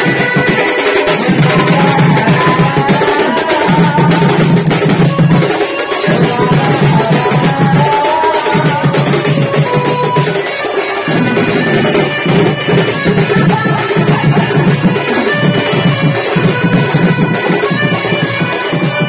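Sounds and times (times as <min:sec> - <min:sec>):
folk band through loudspeakers: 0:00.0 - 0:19.0
hand drums fast rhythm: 0:00.0 - 0:19.0.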